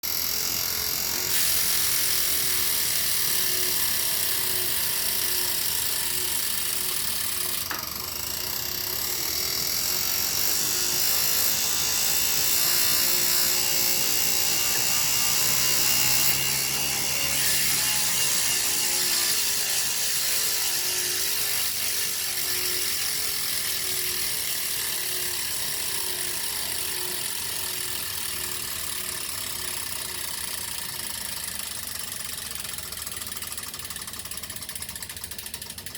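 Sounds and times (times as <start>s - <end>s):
machine rattling and clicking: 0.1s - 35.9s.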